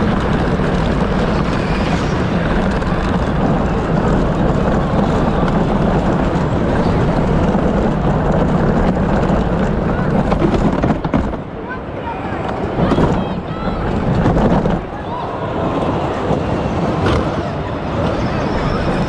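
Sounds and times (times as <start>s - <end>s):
wheel and track noise: 0.0s - 19.0s.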